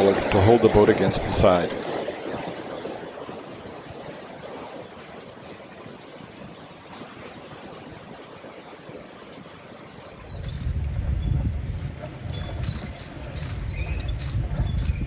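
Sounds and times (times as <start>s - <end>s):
water gushing through sluices: 0.0s - 15.0s.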